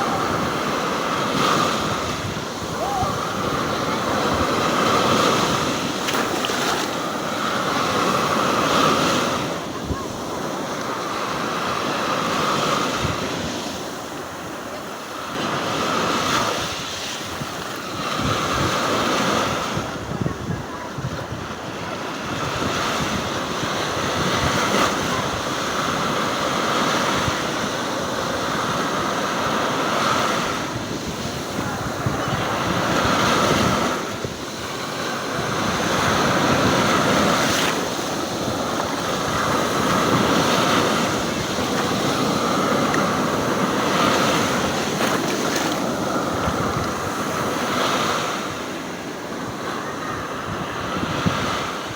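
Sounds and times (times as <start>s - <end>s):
wind buffeting microphone: 0.0s - 14.4s, 15.5s - 51.9s
waves breaking: 0.0s - 51.9s.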